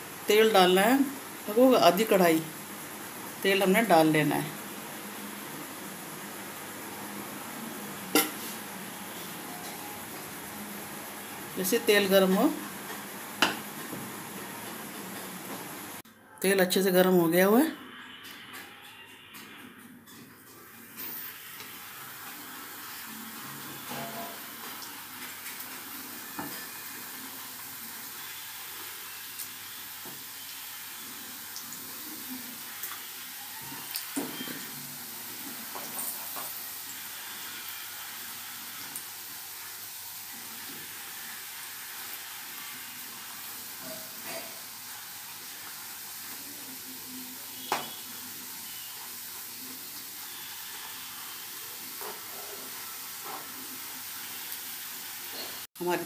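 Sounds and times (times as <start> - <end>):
dough sizzling in hot oil: 0.0 - 16.0, 20.1 - 56.0.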